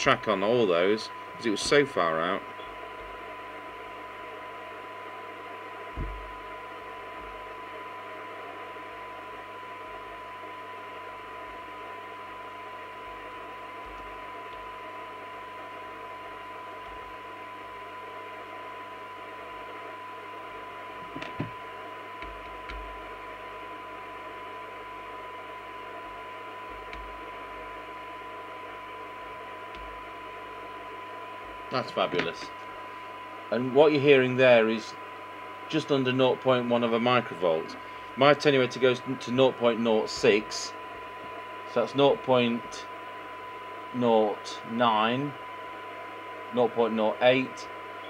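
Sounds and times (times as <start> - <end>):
radio test tone: 0.0 - 45.5
receiver hiss: 0.0 - 48.0.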